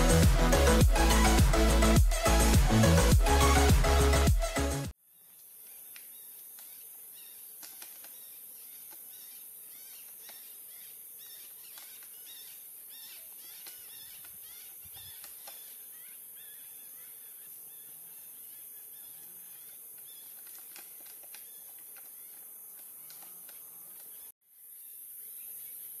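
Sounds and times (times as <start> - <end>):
small birds chirping: 5.2 - 26.0.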